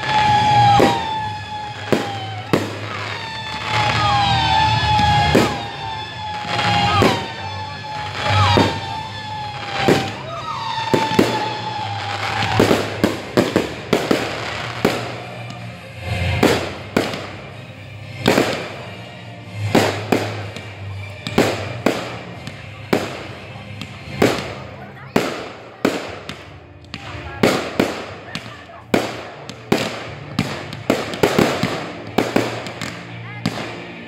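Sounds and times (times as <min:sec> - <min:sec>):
fireworks launching and bursting: 0:00.0 - 0:34.0.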